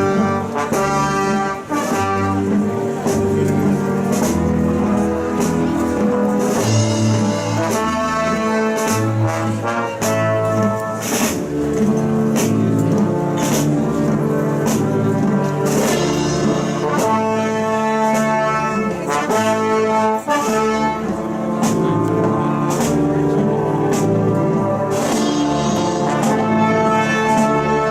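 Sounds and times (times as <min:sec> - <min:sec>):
brass band playing a march: 0:00.0 - 0:27.9
drum and cymbal strikes: 0:00.1 - 0:27.8.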